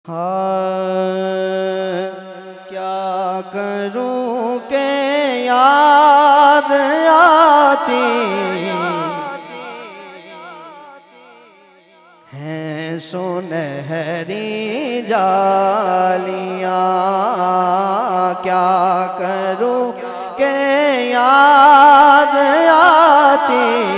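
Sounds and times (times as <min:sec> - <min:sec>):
man singing into a microphone: 0:00.0 - 0:23.9.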